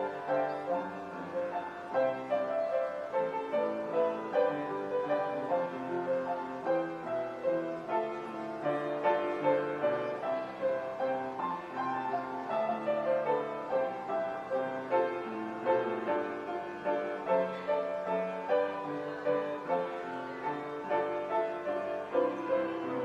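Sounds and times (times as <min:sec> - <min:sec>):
piano melody over chords: 0:00.0 - 0:23.0.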